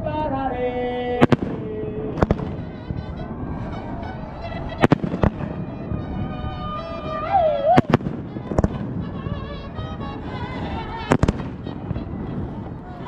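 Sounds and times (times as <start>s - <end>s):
mariachi music: 0.0s - 13.0s
fireworks crackling: 0.8s - 13.0s
fireworks bursting with bangs: 0.9s - 13.0s.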